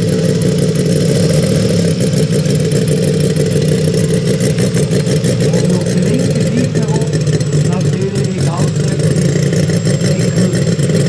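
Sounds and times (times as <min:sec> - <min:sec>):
model plane radial engine running: 0:00.0 - 0:11.0.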